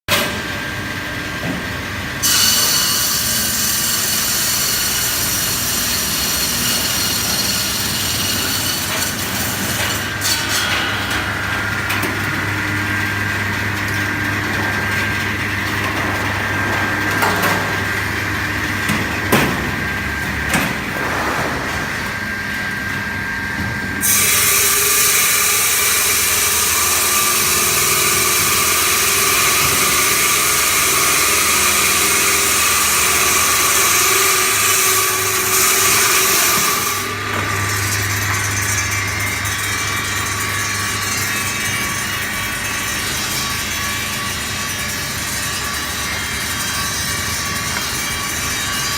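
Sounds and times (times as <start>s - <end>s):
ice cutting machine motor hum: 0.1s - 48.9s.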